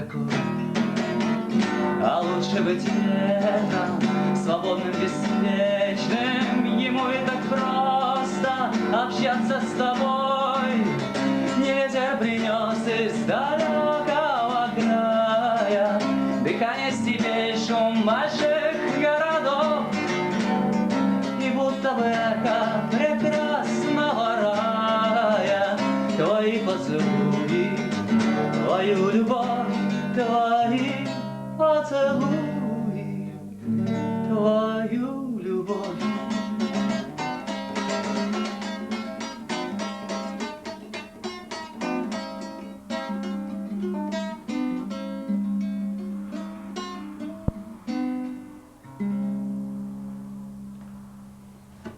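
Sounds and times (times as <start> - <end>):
acoustic guitar music: 0.0 - 51.9.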